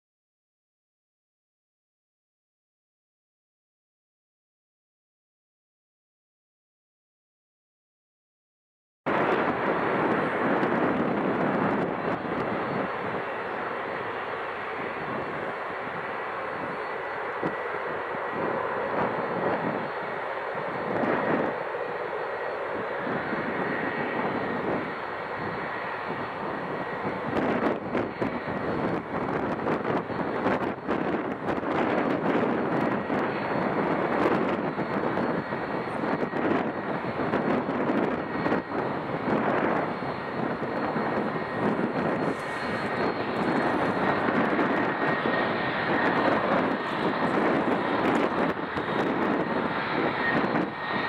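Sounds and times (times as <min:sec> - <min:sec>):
jet engines running: 0:09.1 - 0:51.0
wind buffeting microphone: 0:09.1 - 0:51.0.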